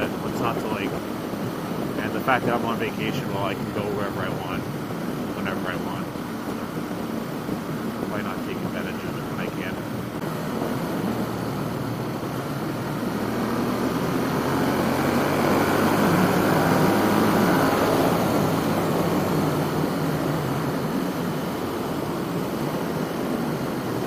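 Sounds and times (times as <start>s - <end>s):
motorcycle engine at speed: 0.0s - 24.0s
wind rushing over microphone: 0.0s - 24.0s.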